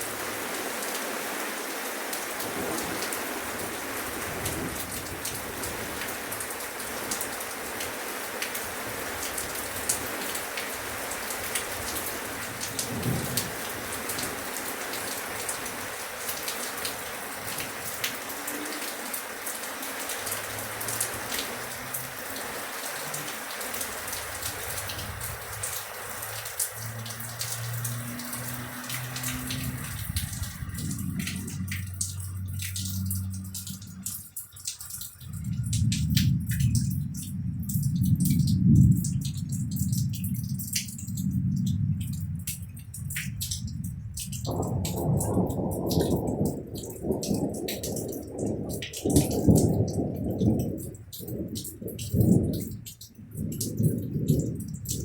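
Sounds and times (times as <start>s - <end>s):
rain drops on hard surface: 0.0s - 55.0s.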